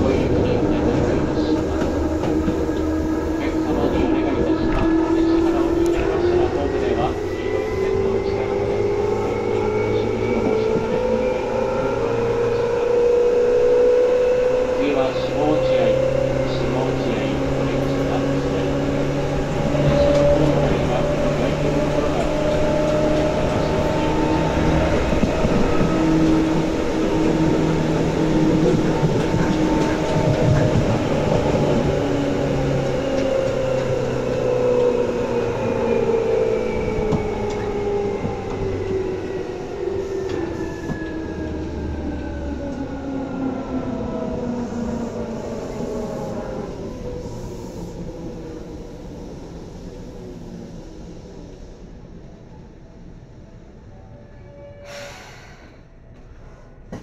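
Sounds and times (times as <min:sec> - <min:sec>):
train wheels on rail: 0:00.0 - 0:52.0, 0:54.8 - 0:57.0.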